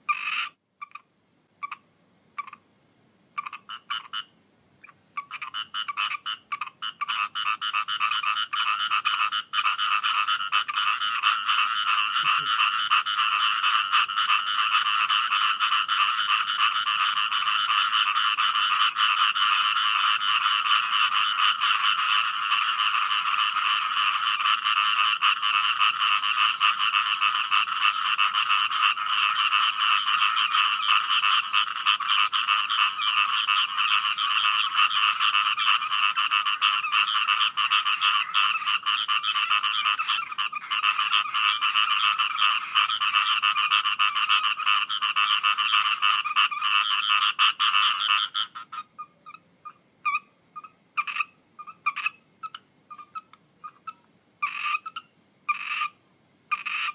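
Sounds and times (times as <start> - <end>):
frog chorus croaking: 0.0 - 56.9
single frog calls: 0.0 - 56.9.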